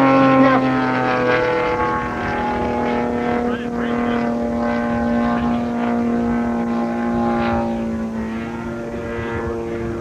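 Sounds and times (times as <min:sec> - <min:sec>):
model airplane engine buzzing: 0:00.0 - 0:10.0.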